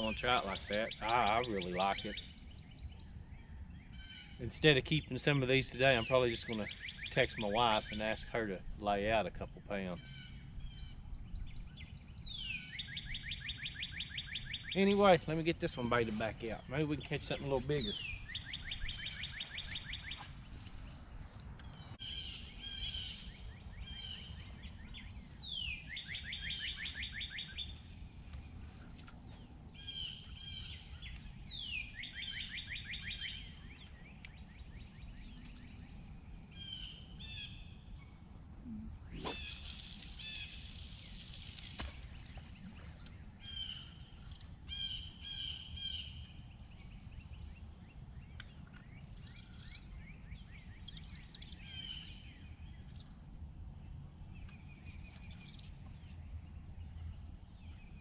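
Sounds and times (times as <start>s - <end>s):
low outdoor rumble: 0.0s - 12.8s, 14.4s - 26.1s, 33.3s - 58.0s
songbirds singing: 0.0s - 58.0s.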